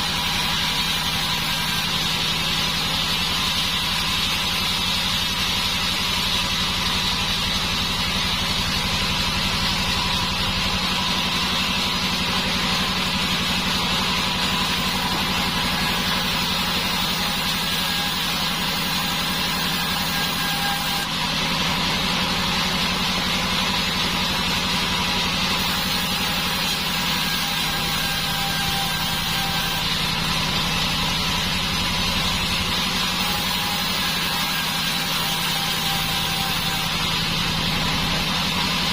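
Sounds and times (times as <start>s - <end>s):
sawmill mechanical drone: 0.0s - 38.9s.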